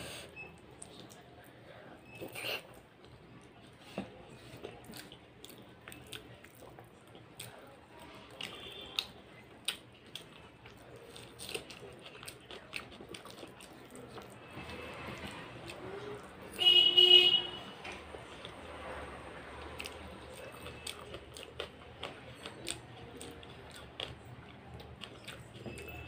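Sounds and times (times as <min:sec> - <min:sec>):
person chewing: 0:00.0 - 0:01.5, 0:02.1 - 0:14.4, 0:17.9 - 0:18.6, 0:19.6 - 0:26.0.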